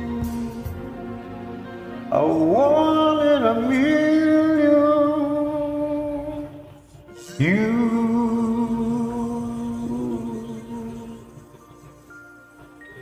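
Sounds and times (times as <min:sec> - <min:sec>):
person singing long wordless notes: 0:00.0 - 0:13.0
slow soul ballad backing track: 0:00.0 - 0:13.0.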